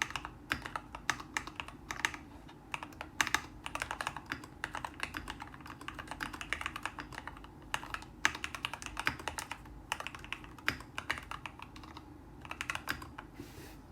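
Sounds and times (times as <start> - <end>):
mechanical keyboard typing: 0.0 - 13.3.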